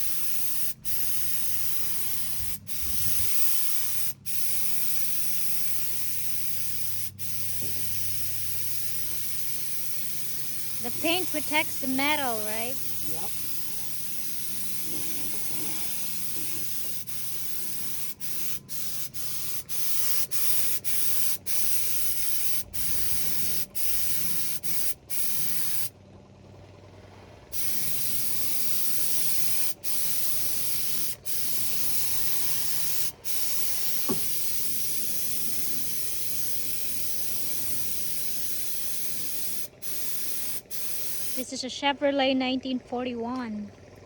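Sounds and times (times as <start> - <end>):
paint spray gun hissing: 0.0 - 25.9, 27.5 - 41.6.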